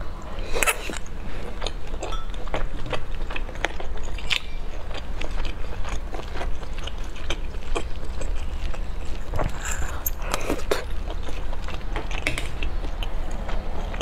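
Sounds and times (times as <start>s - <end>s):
chewing food: 0.0s - 14.0s.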